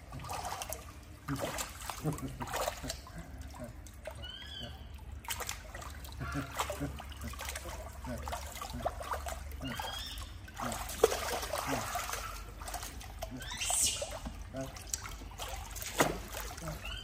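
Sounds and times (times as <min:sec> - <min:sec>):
liquid trickling and splashing: 0:00.0 - 0:17.0.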